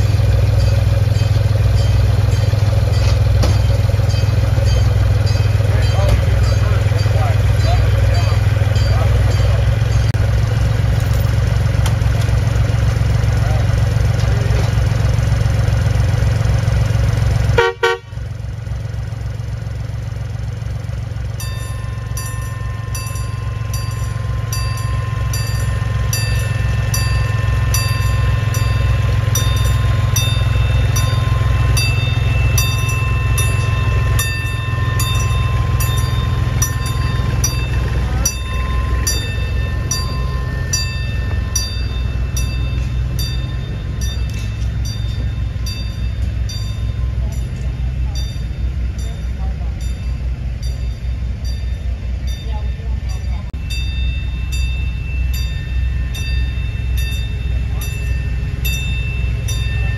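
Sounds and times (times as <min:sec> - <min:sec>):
heavy low rumble: 0:00.0 - 0:59.9
locomotive bell ringing: 0:00.0 - 0:59.9.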